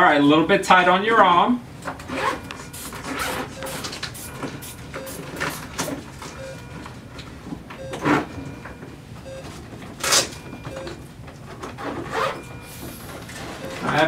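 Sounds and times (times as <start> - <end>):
patient monitor beeping: 1.7 - 14.0.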